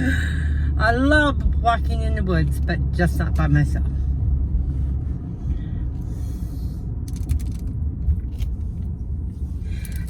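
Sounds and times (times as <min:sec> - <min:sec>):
low rumble inside a car: 0:00.0 - 0:10.0.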